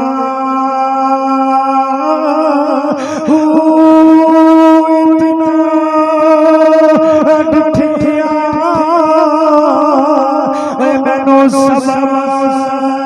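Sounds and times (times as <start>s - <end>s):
man singing through a microphone: 0.0s - 13.0s.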